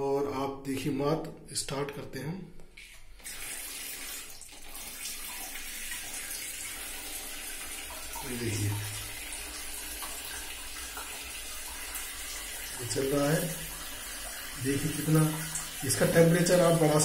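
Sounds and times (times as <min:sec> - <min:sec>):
water splashing from tap: 0:02.7 - 0:17.0.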